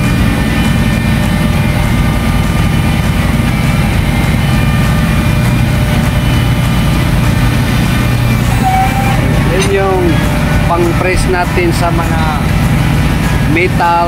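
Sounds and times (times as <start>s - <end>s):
low hum: 0.0s - 14.0s
ship machinery drone: 0.0s - 14.0s.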